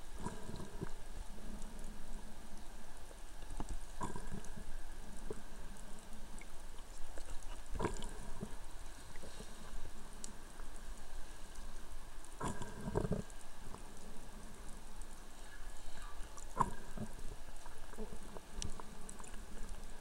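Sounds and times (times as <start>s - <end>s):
underwater water and bubbles: 0.0s - 20.0s.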